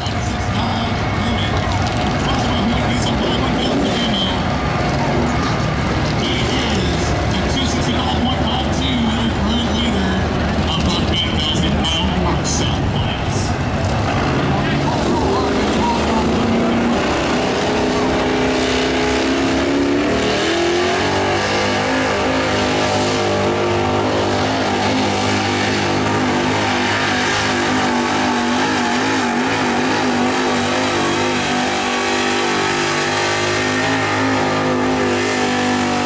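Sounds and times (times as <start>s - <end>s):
truck engine at high revs: 0.0s - 36.0s.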